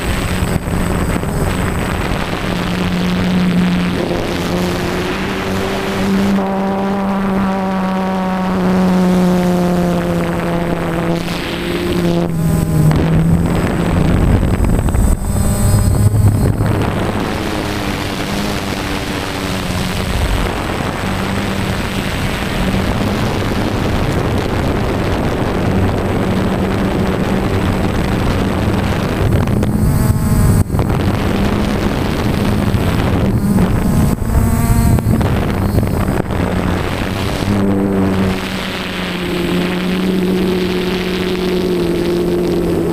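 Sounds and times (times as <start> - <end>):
motor and propeller hum: 0.0 - 42.9
wind noise on microphone: 0.0 - 42.9.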